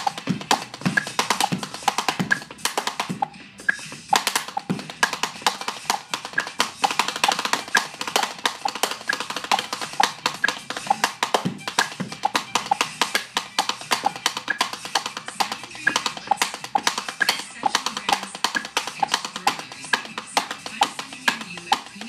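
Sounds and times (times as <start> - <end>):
drumsticks beating on tabletop: 0.0 - 22.0
music track: 0.0 - 22.0.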